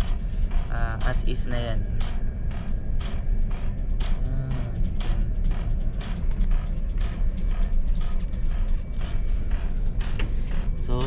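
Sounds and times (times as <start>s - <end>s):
clock clicks and creaks: 0.0s - 11.0s
low machinery hum: 0.0s - 11.0s.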